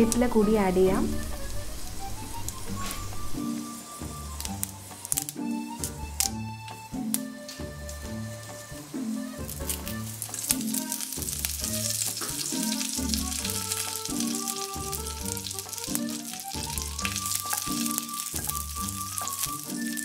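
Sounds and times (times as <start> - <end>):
background music: 0.0 - 20.0
leaves sizzling in hot oil: 0.0 - 20.0.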